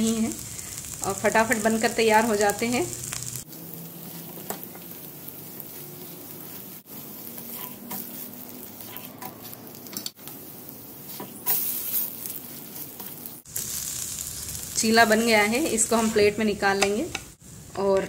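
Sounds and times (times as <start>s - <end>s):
batter sizzling on a griddle: 0.0s - 16.4s.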